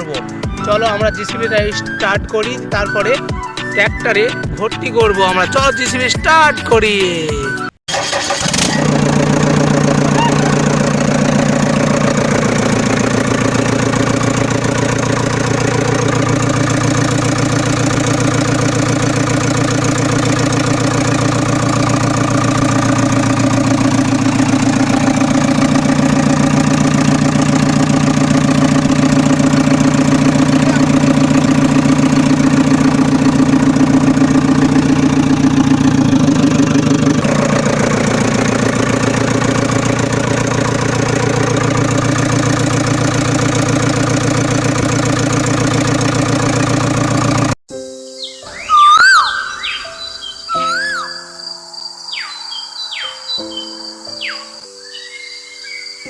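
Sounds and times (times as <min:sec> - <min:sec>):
small engine idling: 0:00.0 - 0:47.6.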